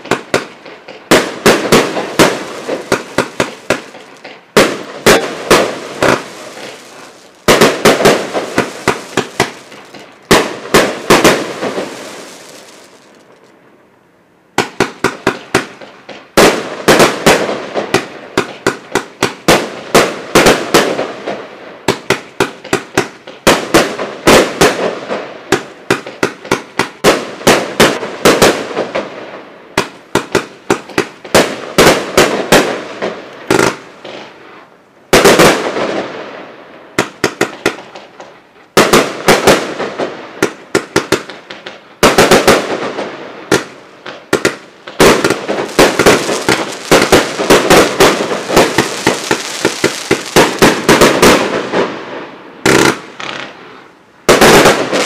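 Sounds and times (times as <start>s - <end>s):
fireworks firing in volleys: 0.0s - 13.8s, 14.5s - 55.0s.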